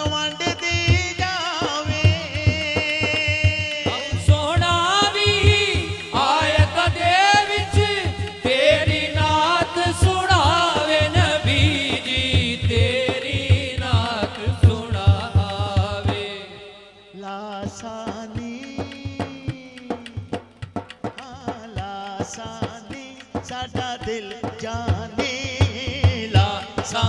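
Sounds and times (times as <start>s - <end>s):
steady low drum beat: 0.0s - 16.6s, 17.6s - 27.0s
man singing through microphone: 0.0s - 27.0s.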